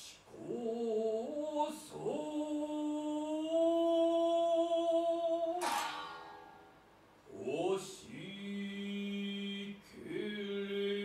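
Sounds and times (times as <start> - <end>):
man chanting unaccompanied: 0.1 - 5.7, 7.3 - 11.0.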